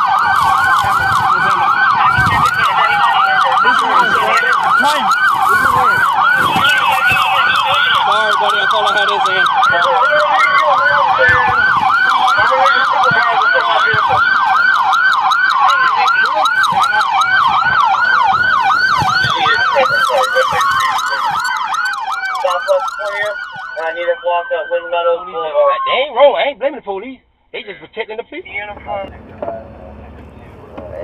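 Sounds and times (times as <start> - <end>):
police siren yelping: 0.0 - 26.4
siren wailing: 0.0 - 26.4.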